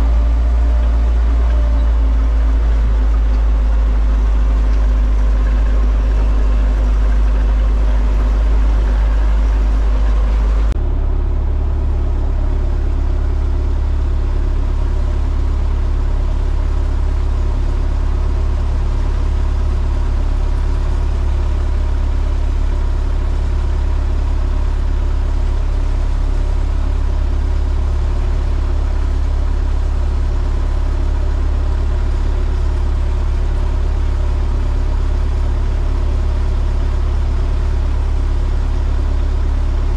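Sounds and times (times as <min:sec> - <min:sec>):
heavy engine droning: 0:00.0 - 0:39.9.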